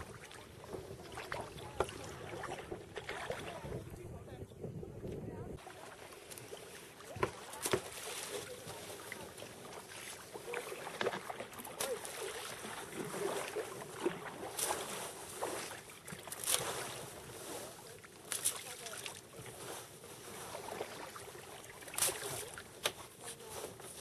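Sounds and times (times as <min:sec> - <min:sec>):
short sharp splashes and knocks: 0:00.0 - 0:03.8, 0:05.6 - 0:24.0
water lapping and splashing: 0:00.0 - 0:24.0.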